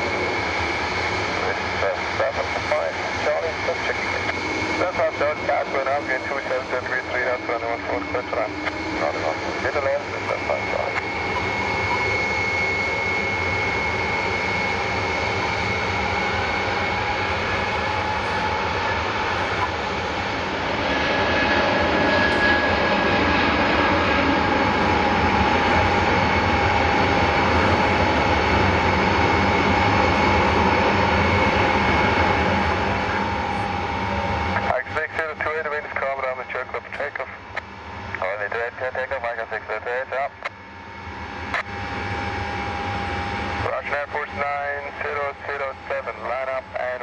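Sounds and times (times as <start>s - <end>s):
jet engines roaring with whine: 0.0s - 47.0s.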